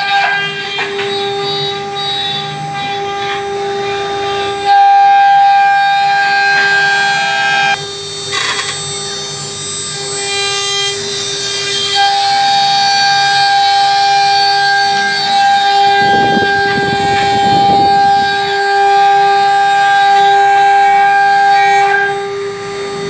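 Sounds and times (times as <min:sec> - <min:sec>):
router cutting plastic sheet: 0:00.0 - 0:23.0
router spindle whine: 0:00.0 - 0:23.0.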